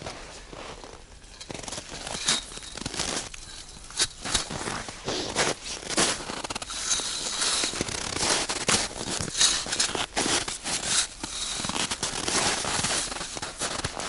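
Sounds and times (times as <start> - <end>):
fabric rustling: 0.0 - 14.0
snow crunching: 0.0 - 14.0.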